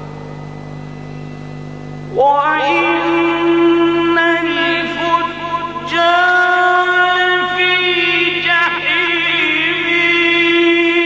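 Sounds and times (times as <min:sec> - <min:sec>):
steady background hum: 0:00.0 - 0:11.0
man chanting through microphone: 0:02.1 - 0:11.0.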